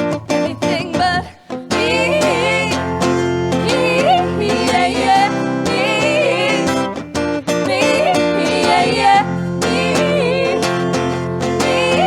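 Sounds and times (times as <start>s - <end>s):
acoustic guitar: 0.0s - 12.0s
person singing: 0.0s - 12.0s.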